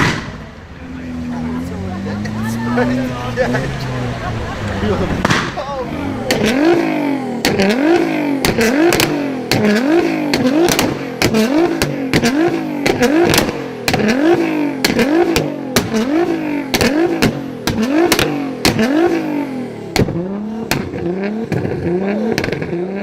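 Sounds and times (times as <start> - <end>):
car engine revving: 0.0 - 23.0
exhaust bangs: 0.0 - 23.0.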